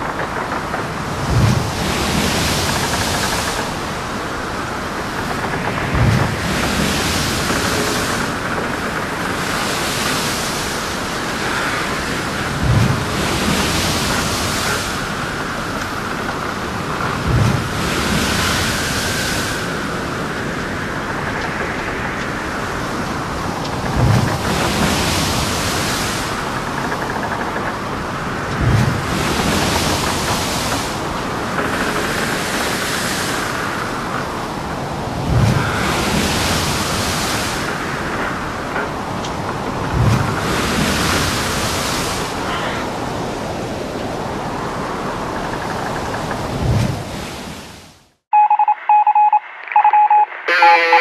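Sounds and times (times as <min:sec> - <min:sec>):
sea waves washing: 0:00.0 - 0:48.1.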